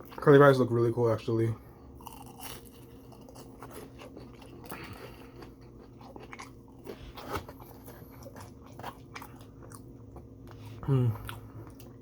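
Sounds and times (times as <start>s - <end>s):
person chewing crunchy fries: 0.0s - 12.0s.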